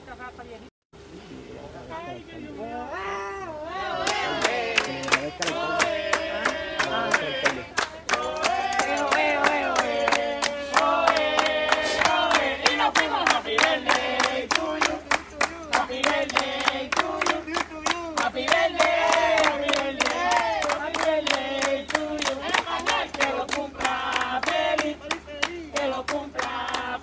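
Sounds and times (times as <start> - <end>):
group of people singing: 3.6 - 27.0
hands clapping in rhythm: 4.0 - 27.0.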